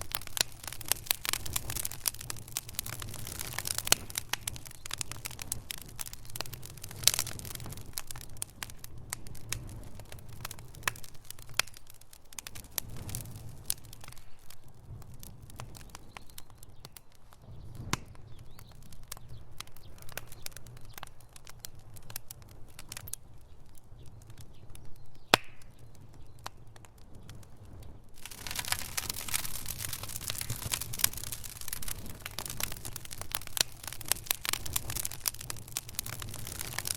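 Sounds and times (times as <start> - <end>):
fire crackling and popping: 0.0 - 36.9.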